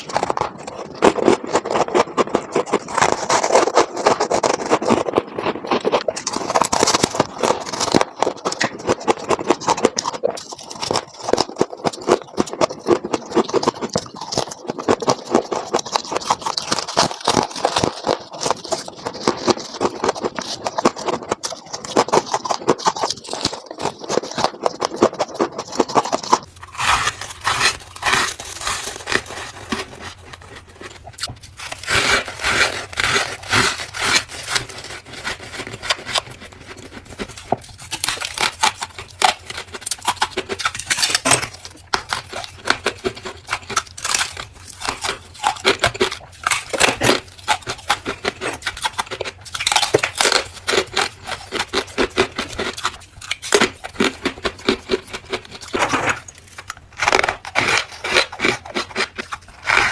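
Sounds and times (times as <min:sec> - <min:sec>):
freezer ice scraping and crunching: 0:00.0 - 0:59.9.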